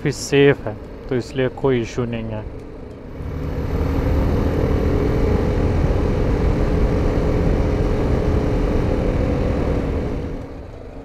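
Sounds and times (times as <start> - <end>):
low rushing noise: 0.0 - 11.0.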